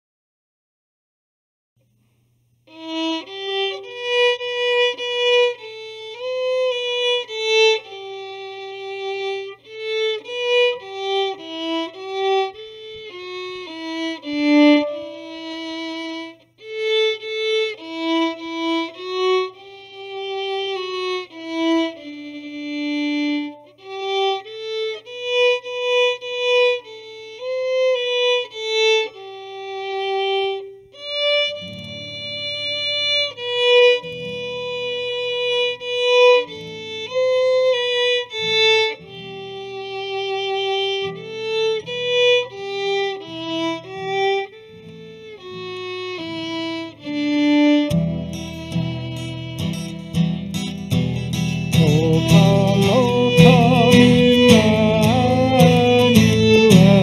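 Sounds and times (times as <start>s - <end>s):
steady low hum: 1.8s - 57.0s
slow violin melody: 2.6s - 57.0s.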